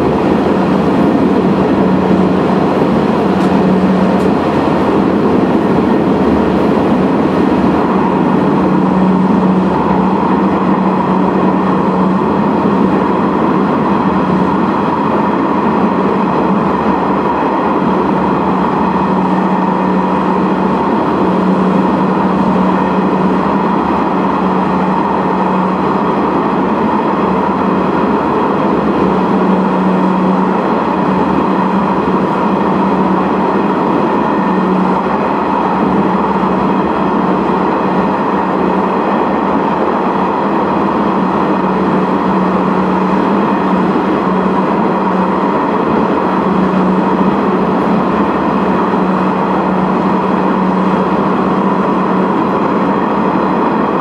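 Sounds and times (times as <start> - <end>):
constant low hum: 0.0 - 54.0
train rumbling through tunnel: 0.0 - 54.0.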